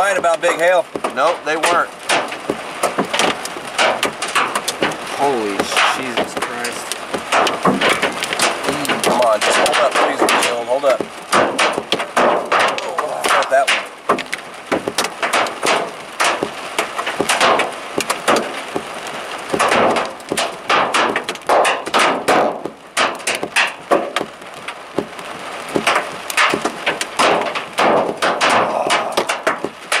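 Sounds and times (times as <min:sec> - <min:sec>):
hail clattering: 0:00.0 - 0:30.0
heavy rain hissing: 0:00.0 - 0:30.0.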